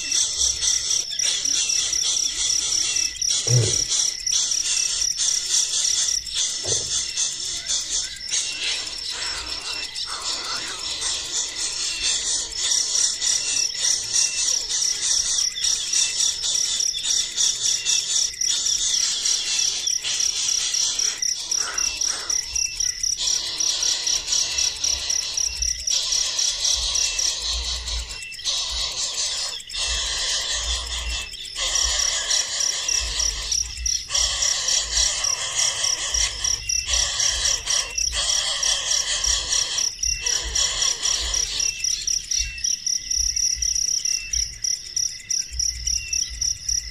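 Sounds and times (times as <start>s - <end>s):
crickets chirping: 0.0s - 46.9s
dense insect buzz: 0.0s - 46.9s.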